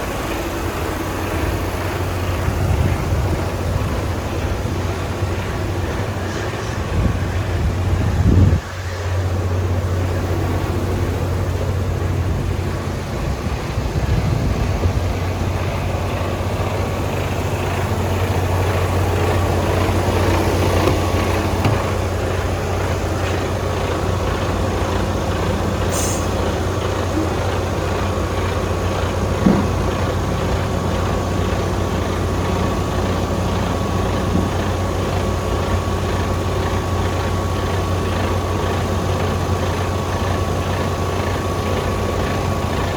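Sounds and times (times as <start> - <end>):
truck diesel engine idling: 0.0 - 42.9.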